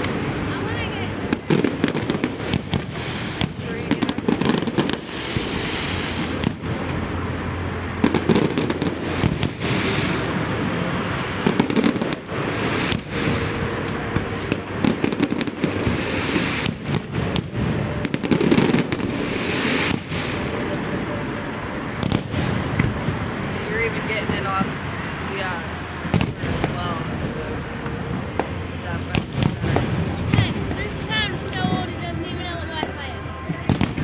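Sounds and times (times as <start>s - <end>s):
fireworks bangs: 0.0s - 34.0s
fireworks crackling rumble: 0.0s - 34.0s.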